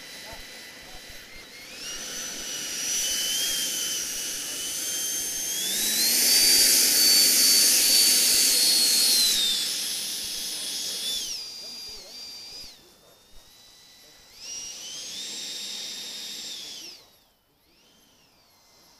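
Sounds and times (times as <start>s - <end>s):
model jet engine whine: 0.0s - 18.9s.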